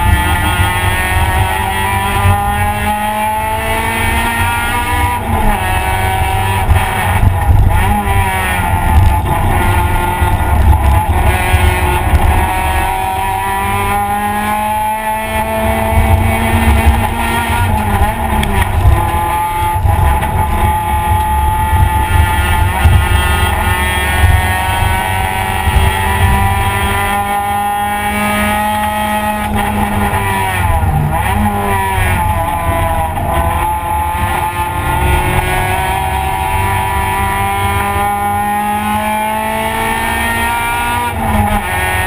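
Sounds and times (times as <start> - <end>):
race car engine revving: 0.0 - 42.0
road and wind noise: 0.0 - 42.0.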